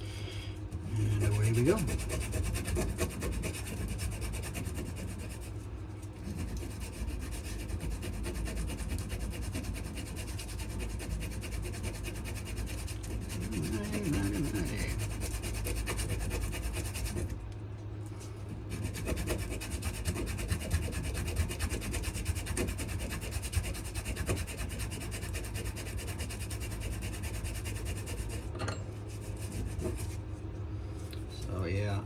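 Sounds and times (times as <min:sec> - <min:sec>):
sandpaper rubbing on wood: 0:00.9 - 0:05.6, 0:06.2 - 0:17.4, 0:18.7 - 0:28.4, 0:29.1 - 0:30.2.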